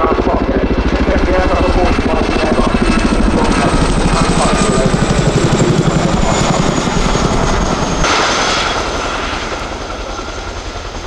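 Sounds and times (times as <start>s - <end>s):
helicopter rotor thudding: 0.0s - 11.0s.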